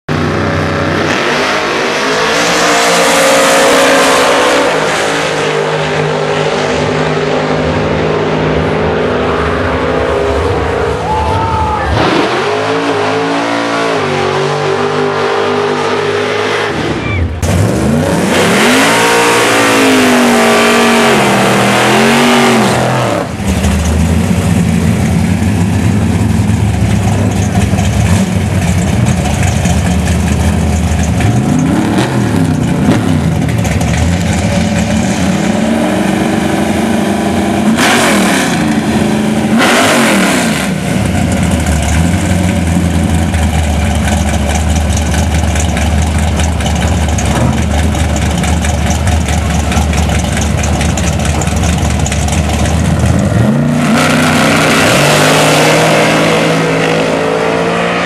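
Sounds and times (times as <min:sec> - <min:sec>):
race car engines idling and revving: 0:00.1 - 0:58.0
race cars launching at full throttle: 0:00.6 - 0:58.0.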